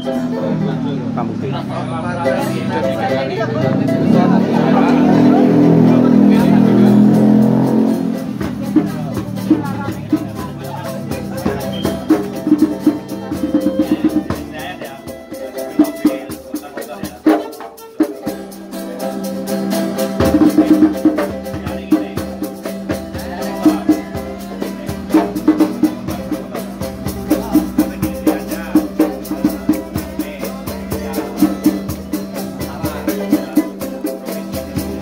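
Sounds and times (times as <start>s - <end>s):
street musicians playing: 0.0s - 35.0s.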